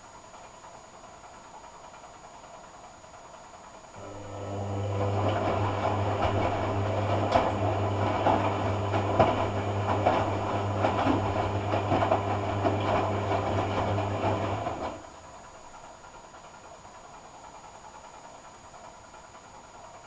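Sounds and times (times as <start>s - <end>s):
washing machine motor hum: 3.9s - 20.0s.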